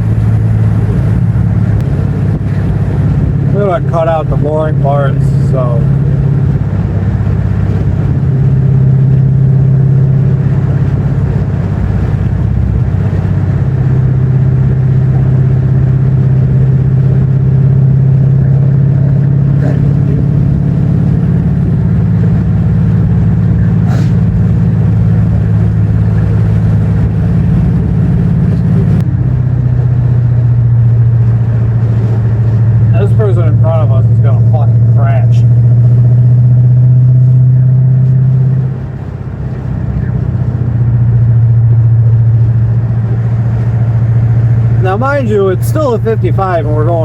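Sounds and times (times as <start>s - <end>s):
car engine droning: 0.0s - 47.0s
tyre and road noise: 0.0s - 47.0s.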